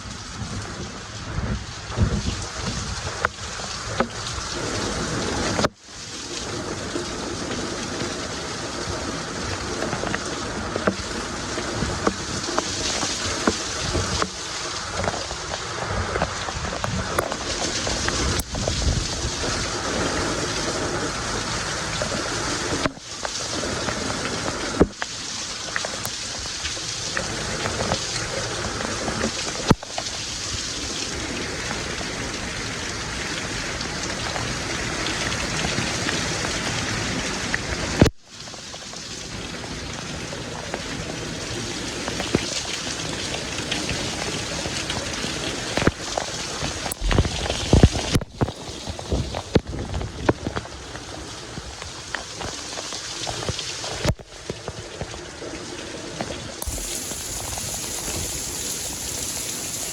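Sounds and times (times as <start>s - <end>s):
sharp rain spatters: 0.0s - 59.9s
steady rain falling: 0.0s - 59.9s.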